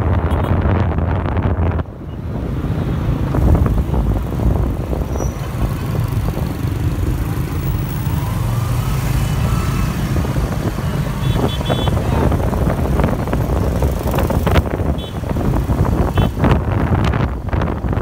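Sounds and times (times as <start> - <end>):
hum of motorbikes and cars: 0.0 - 18.0
wind buffeting microphone: 0.0 - 18.0.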